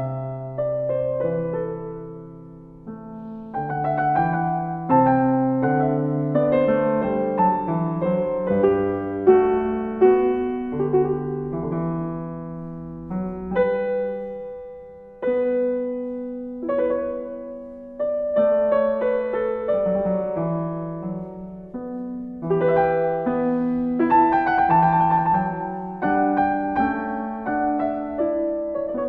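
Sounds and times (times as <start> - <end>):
slow solo piano: 0.0 - 29.0.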